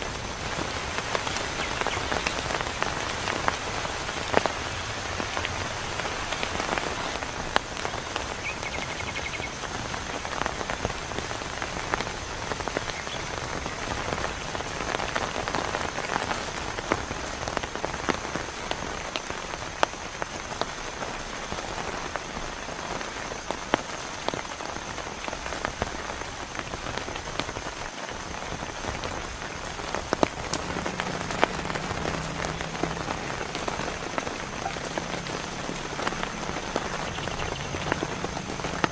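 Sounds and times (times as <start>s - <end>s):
heavy rain falling: 0.0s - 38.9s
raindrops ticking on a surface: 0.0s - 38.9s.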